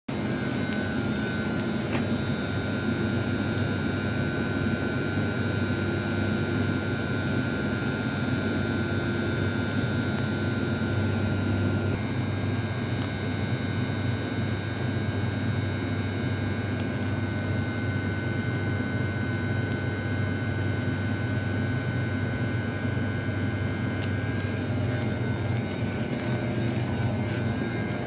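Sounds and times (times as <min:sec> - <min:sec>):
train equipment humming with whine: 0:00.1 - 0:28.0.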